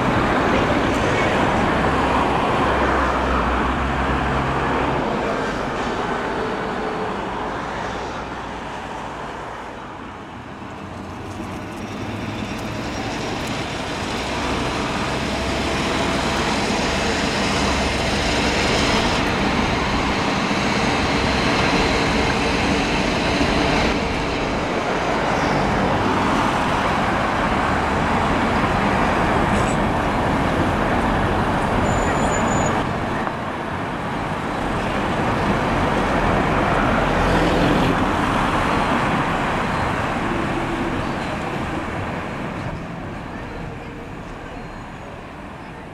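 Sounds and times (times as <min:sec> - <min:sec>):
road traffic passing: 0:00.0 - 0:45.9.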